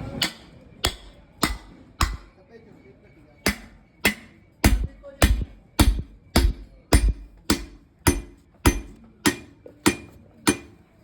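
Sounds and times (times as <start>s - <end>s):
hammer blows on metal: 0.0s - 2.4s, 3.5s - 10.9s.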